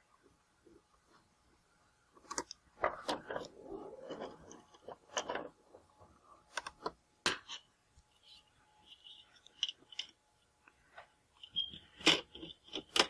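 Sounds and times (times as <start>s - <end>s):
rustling and scraping: 2.2s - 13.0s.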